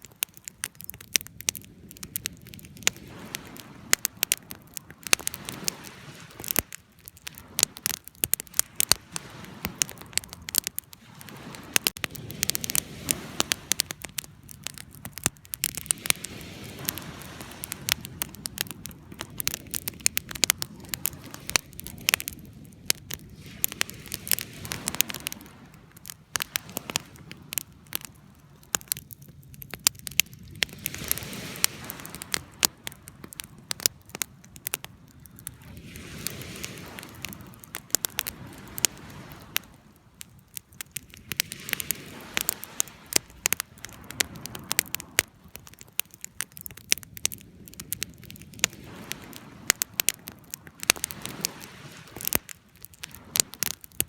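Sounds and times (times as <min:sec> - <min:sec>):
low rush of flame: 0:00.0 - 0:54.0
wood fire crackling: 0:00.0 - 0:54.0.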